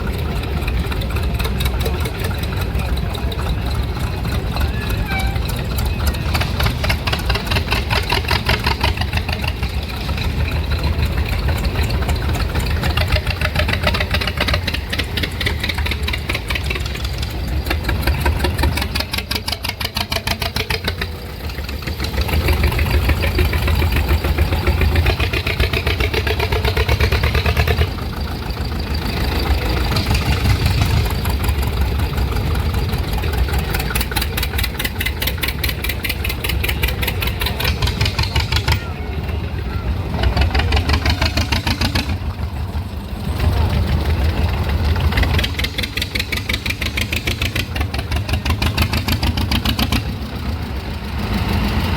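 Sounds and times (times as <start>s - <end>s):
tractor engines running: 0.0s - 51.9s.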